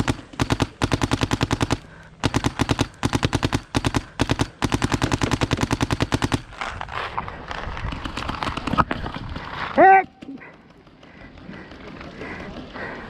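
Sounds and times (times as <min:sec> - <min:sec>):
paintball guns firing rapidly: 0:00.0 - 0:06.7, 0:07.9 - 0:13.0.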